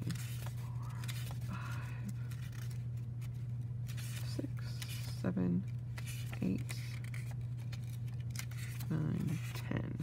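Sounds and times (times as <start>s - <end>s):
notebook pages rustling: 0.0s - 10.0s
steady low hum: 0.0s - 10.0s.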